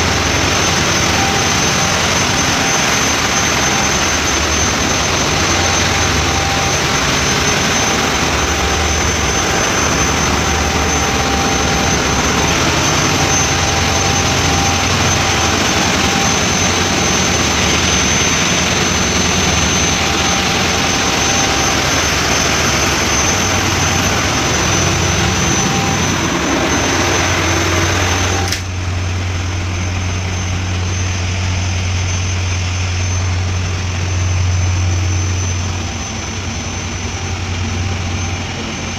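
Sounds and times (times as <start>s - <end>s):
diesel engine running: 0.0s - 38.9s
thin high whine: 0.0s - 38.9s.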